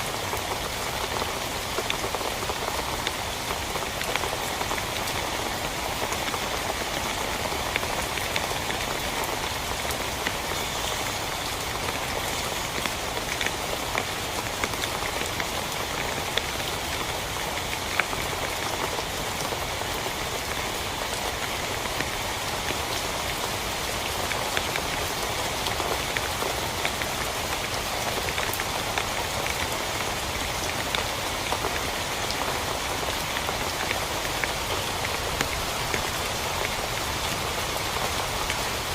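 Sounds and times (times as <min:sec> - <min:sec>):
rain pattering on tent fabric: 0:00.0 - 0:38.9.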